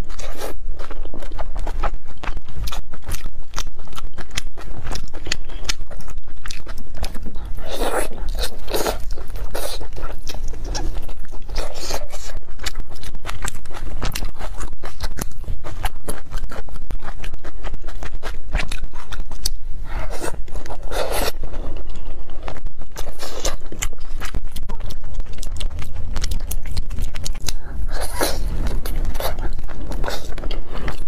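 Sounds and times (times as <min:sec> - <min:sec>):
close chewing with mouth clicks: 0:00.0 - 0:31.0.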